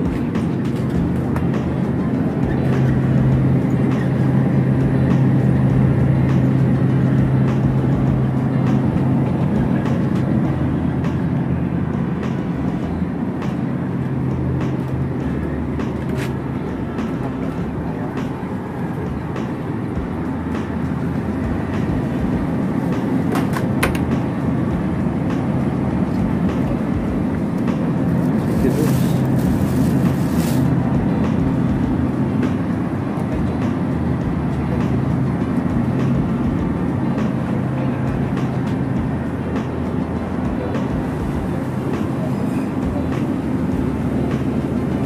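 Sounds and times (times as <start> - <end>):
refrigerated display cases humming: 0.0 - 45.0
rumbling background noise: 0.0 - 45.0.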